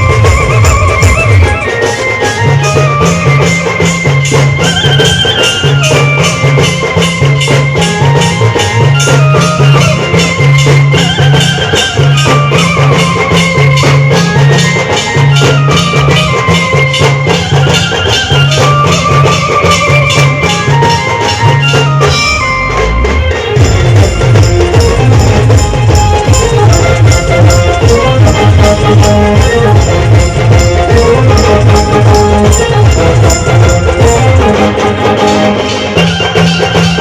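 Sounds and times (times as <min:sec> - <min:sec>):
band melody: 0:00.0 - 0:37.0
fast steady drumming: 0:00.0 - 0:37.0.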